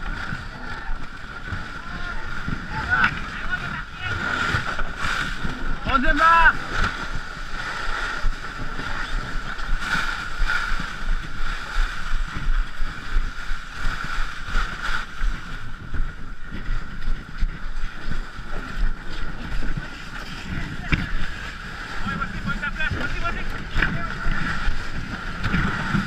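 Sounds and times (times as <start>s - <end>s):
canoe hull scraping over snow: 0.0s - 26.0s
wind buffeting microphone: 0.0s - 26.0s.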